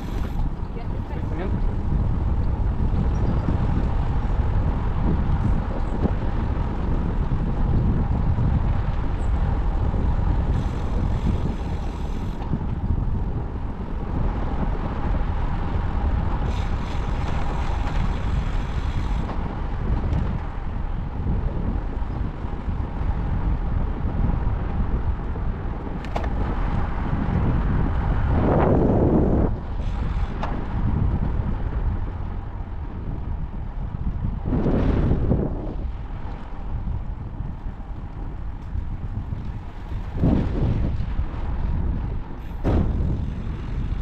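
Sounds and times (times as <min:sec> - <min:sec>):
road and tyre rumble: 0:00.0 - 0:44.0
wind rushing over microphone: 0:00.0 - 0:44.0.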